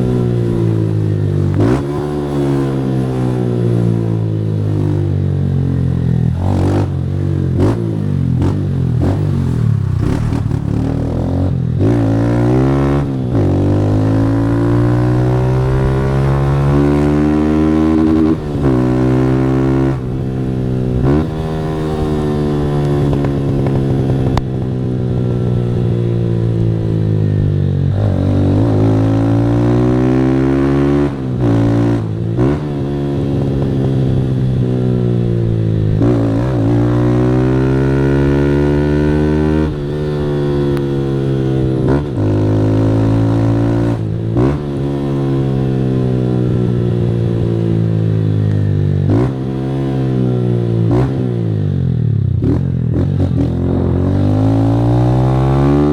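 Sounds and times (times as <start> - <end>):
motorcycle engine revving through gears: 0.0 - 55.9.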